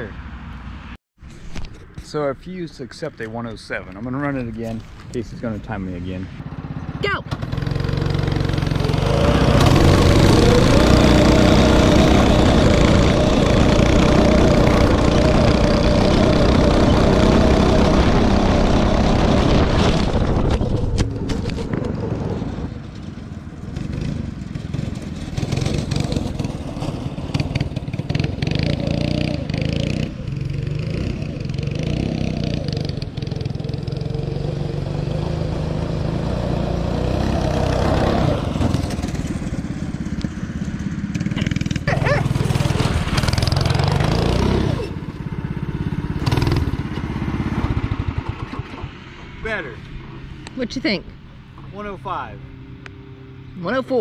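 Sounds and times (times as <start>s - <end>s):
go-kart engine at full throttle: 6.3s - 50.6s.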